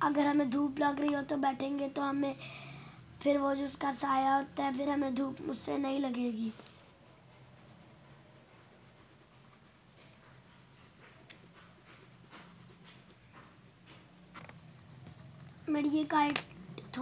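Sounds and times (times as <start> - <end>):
pencil scratching on paper: 0.0 - 17.0.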